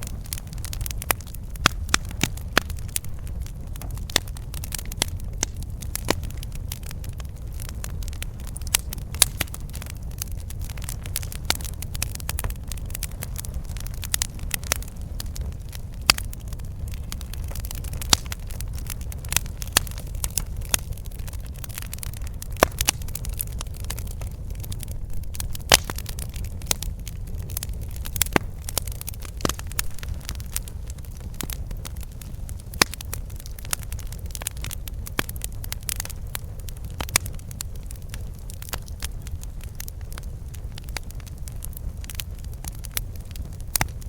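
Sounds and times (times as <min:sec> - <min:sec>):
campfire popping and crackling: 0:00.0 - 0:44.0
fire low rumble: 0:00.0 - 0:44.0.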